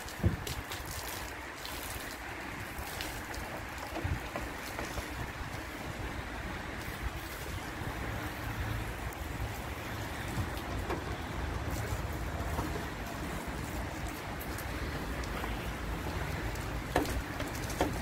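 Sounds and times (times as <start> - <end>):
foam brush scrubbing car: 0.0 - 18.0
water running: 0.0 - 18.0.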